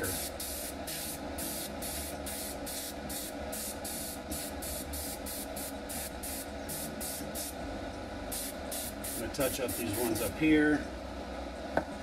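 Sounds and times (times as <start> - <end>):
airbrush hissing: 0.0 - 7.6, 8.3 - 10.4
low steady hum: 0.0 - 12.0.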